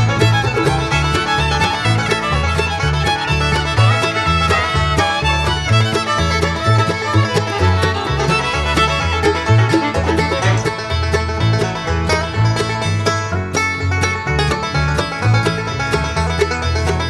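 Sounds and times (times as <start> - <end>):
bluegrass tune with fiddle and banjo: 0.0 - 17.0.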